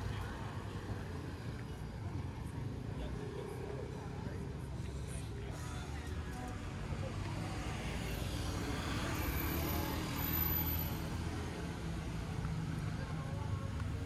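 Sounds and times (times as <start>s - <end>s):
car and scooter engines running: 0.0s - 14.0s.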